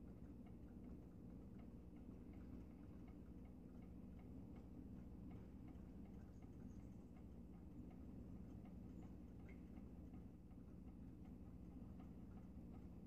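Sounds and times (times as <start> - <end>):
faint regular ticking: 0.0 - 13.0
low room hum: 0.0 - 13.0.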